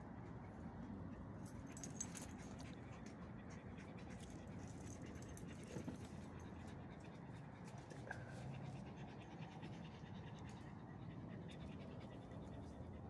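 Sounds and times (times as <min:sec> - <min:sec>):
dog panting and whimpering: 0:00.3 - 0:13.0.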